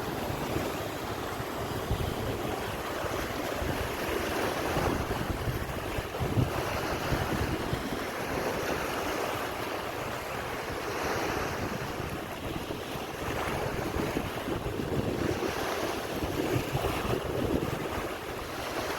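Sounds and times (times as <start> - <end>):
sea waves washing onto beach: 0.0 - 18.9
wind buffeting microphone: 0.0 - 18.9.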